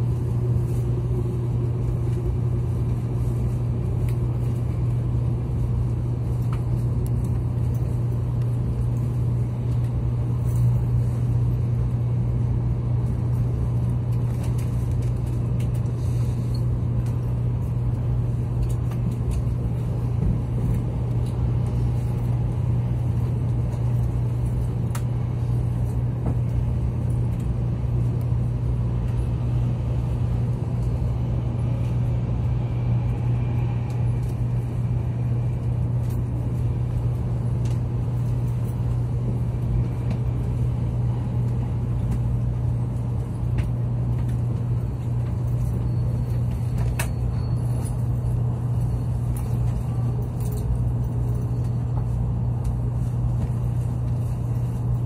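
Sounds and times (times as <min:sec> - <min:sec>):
train cabin rumble and hum: 0:00.0 - 0:55.0.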